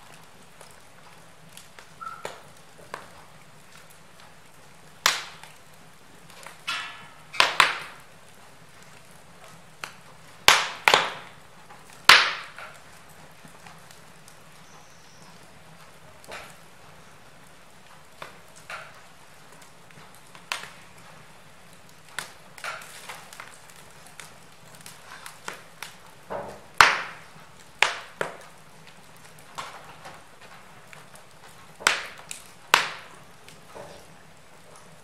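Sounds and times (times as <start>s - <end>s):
faint steady hiss: 0.0s - 35.0s
wood fire crackling and popping: 0.0s - 35.0s.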